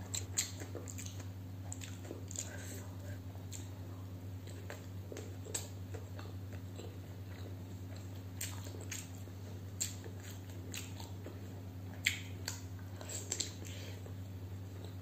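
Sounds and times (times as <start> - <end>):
biting food: 0.0 - 3.8, 4.4 - 14.2
person chewing food: 0.0 - 15.0
steady low hum: 0.0 - 15.0.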